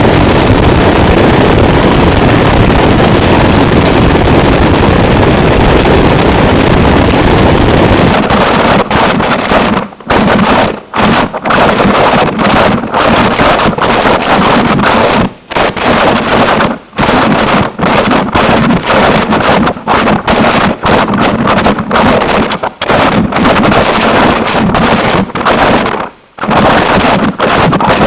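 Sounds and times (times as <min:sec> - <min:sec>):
harsh distorted noise music: 0:00.0 - 0:28.0.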